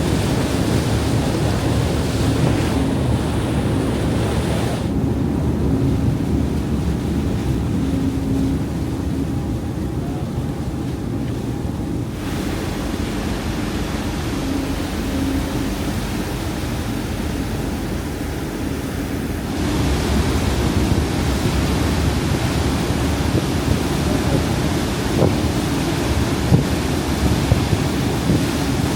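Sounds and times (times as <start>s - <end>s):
ferry engine rumble: 0.0s - 28.9s
rushing water: 0.0s - 28.9s
wind across microphone: 0.0s - 28.9s.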